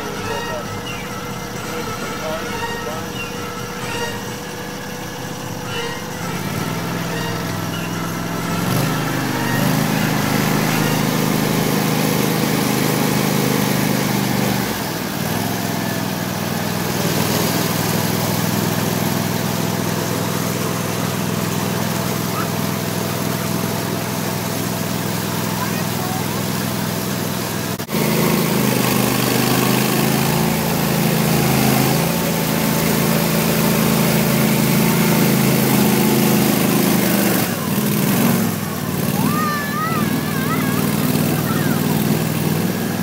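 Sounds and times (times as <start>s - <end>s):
vehicle engine running under load: 0.0s - 43.0s.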